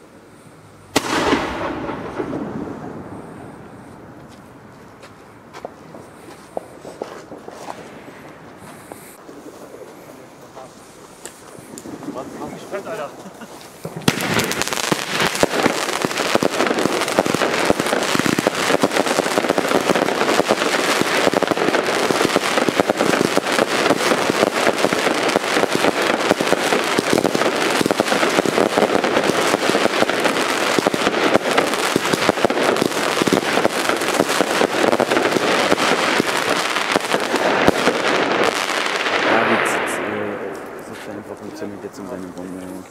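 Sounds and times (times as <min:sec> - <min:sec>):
firework battery crackling: 0:00.0 - 0:42.9.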